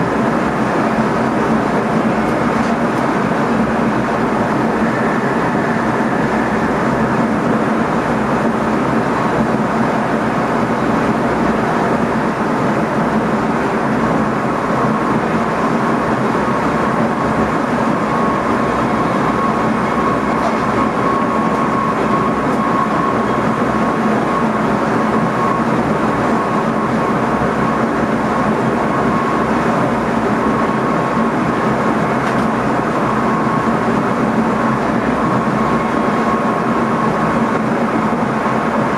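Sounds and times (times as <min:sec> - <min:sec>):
faint steady whine: 0:00.0 - 0:38.9
train running rumble: 0:00.0 - 0:38.9.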